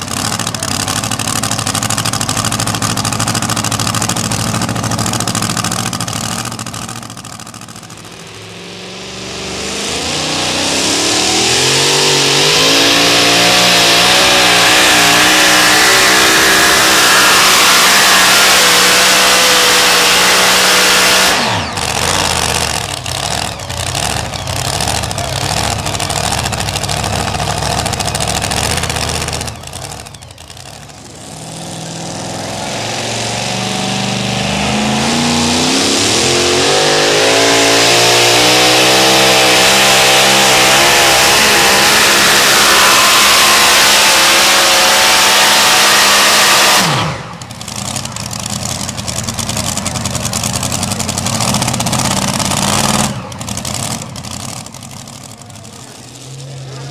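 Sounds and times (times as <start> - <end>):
engine idling unevenly: 0.0 - 36.6, 46.8 - 56.9
truck engine running flat out: 0.0 - 56.9.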